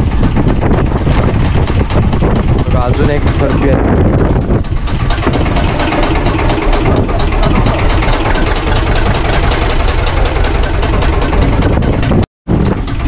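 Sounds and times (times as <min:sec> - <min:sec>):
boat engine idling: 0:00.0 - 0:13.0
wind on microphone: 0:00.0 - 0:13.0.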